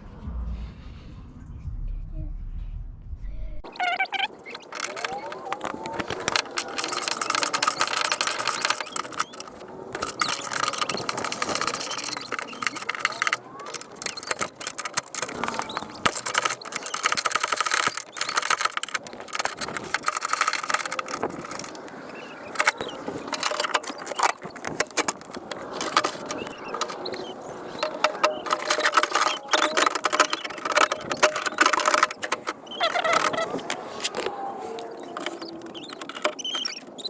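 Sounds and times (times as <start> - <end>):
metal latch parts rattling and clicking: 4.2 - 34.3, 35.0 - 37.0.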